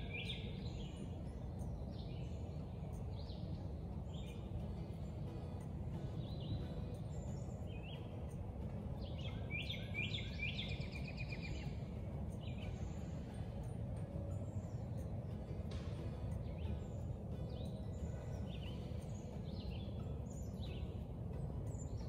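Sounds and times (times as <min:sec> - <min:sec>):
low outdoor rumble: 0:00.0 - 0:22.0
songbirds chirping: 0:00.0 - 0:22.0.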